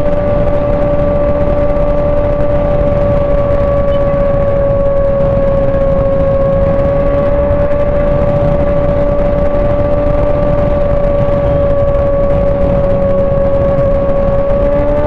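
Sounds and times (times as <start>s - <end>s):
motorcycle engine whine at high revs: 0.0s - 15.0s
wind rumble on microphone: 0.0s - 15.0s.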